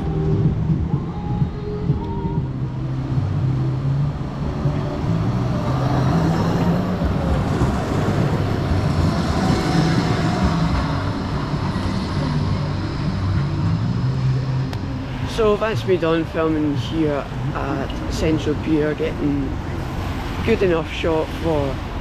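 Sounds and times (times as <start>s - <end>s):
tram hum and rumble: 0.0s - 22.0s.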